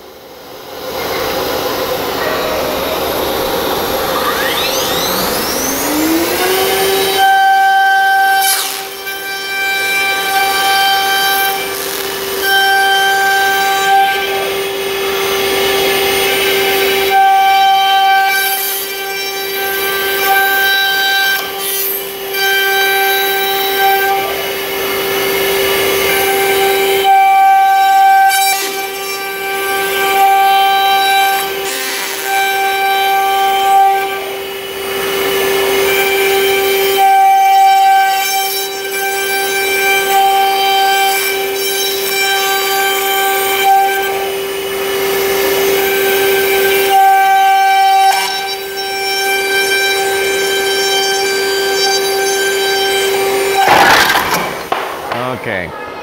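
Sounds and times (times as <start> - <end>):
router spindle whining: 0.0 - 55.6.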